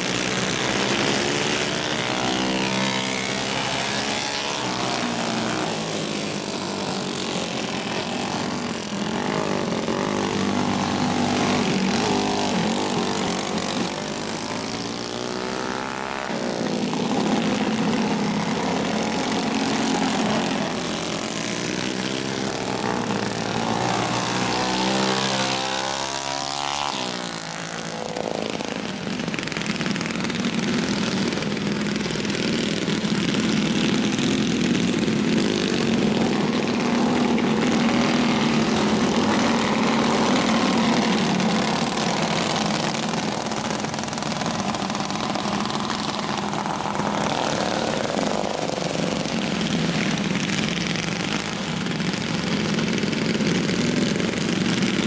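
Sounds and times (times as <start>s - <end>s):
kart passing by: 0.0s - 55.0s
racing kart engines droning: 0.0s - 55.0s.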